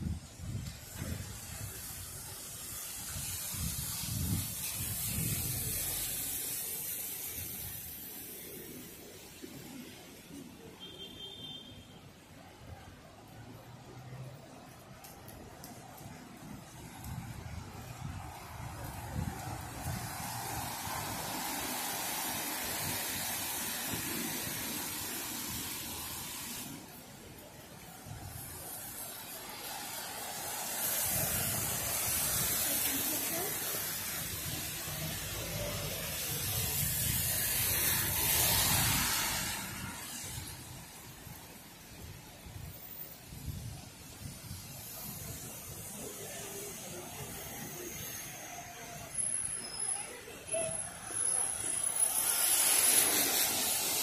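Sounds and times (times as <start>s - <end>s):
tyres hissing on wet road: 0.0s - 54.0s.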